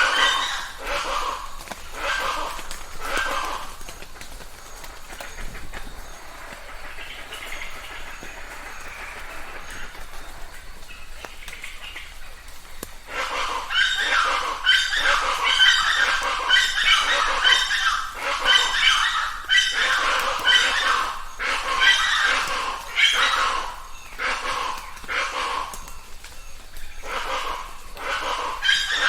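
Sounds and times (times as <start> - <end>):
birds calling loudly: 0.0 - 29.0
light rain hiss: 0.0 - 29.0.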